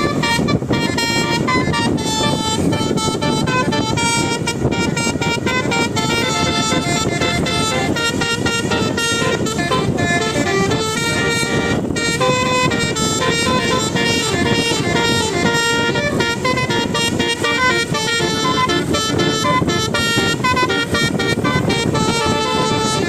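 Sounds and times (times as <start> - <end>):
low rumbling noise: 0.0 - 23.0
musical bus horns: 0.0 - 23.0.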